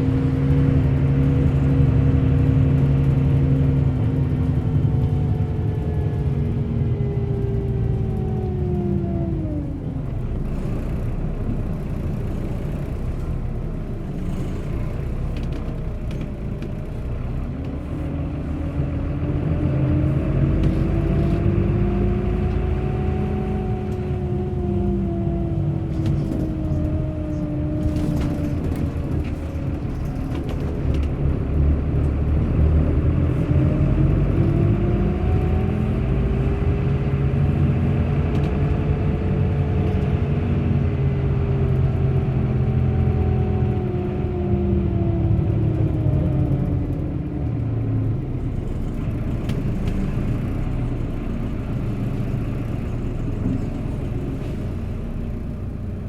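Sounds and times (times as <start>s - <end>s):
bus engine rumble and whine: 0.0s - 56.0s.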